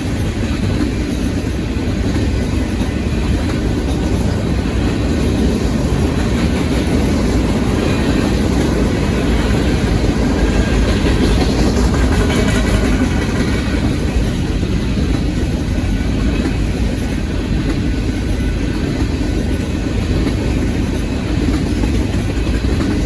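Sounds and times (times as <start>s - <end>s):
freight train cars rolling past: 0.0s - 23.0s.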